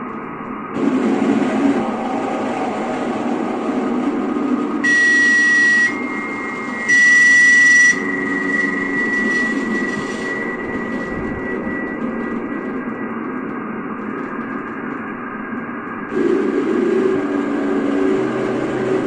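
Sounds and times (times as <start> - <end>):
bright static with high tone: 0.0 - 19.0
low droning tones: 0.0 - 19.0.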